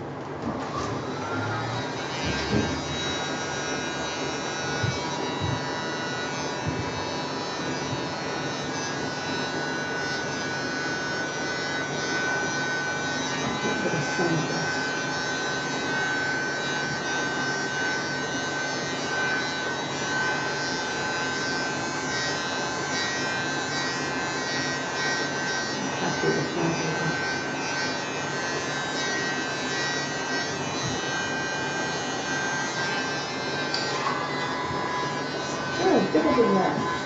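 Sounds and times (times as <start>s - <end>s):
electric blower motor whining: 0.0s - 37.0s.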